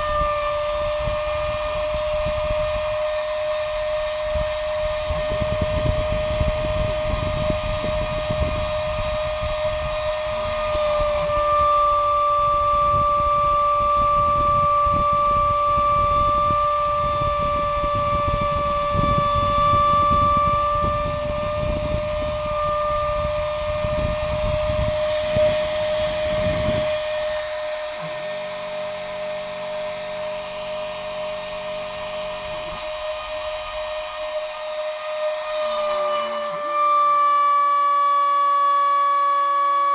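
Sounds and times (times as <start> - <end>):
machine rattling and buzzing: 0.0 - 39.9
stepper motors whining: 0.0 - 39.9.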